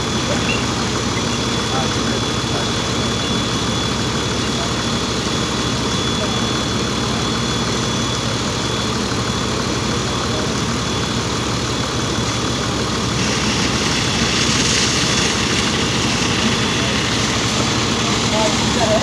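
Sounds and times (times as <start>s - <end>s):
fire truck engine droning: 0.0s - 19.0s.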